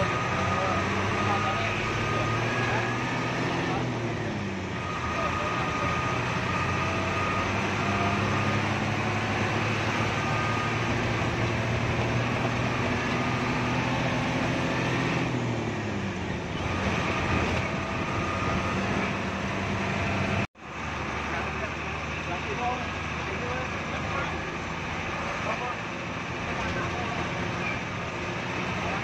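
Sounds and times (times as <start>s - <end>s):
bus diesel engine running: 0.0s - 29.0s
road noise: 0.0s - 29.0s.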